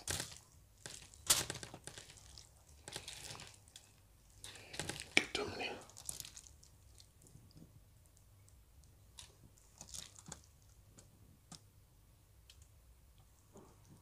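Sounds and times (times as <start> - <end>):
wet clicks and squishes: 0.0 - 11.7, 12.4 - 14.0.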